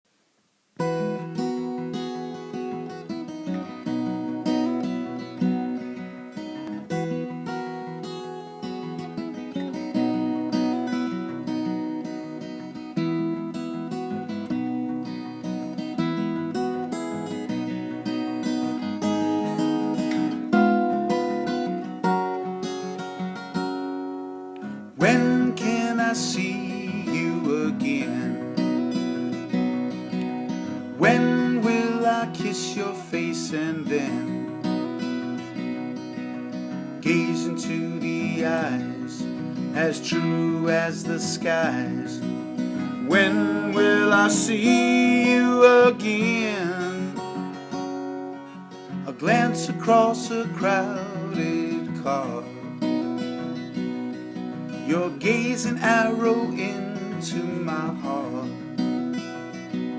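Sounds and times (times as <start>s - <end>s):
acoustic guitar strumming and picking: 0.8s - 59.9s.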